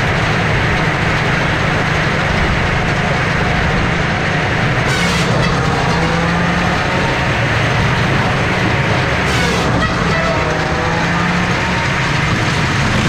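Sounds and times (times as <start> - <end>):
firewood processor running: 0.0 - 13.0.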